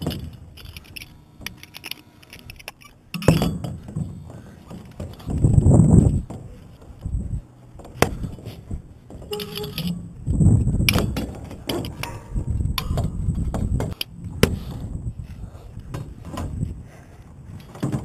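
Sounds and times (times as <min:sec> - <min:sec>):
wind rumbling on microphone: 0:03.4 - 0:18.0.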